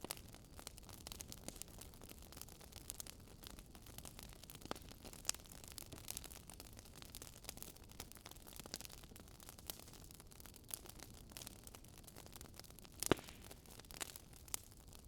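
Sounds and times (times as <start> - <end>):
campfire wood crackling: 0.0 - 15.0.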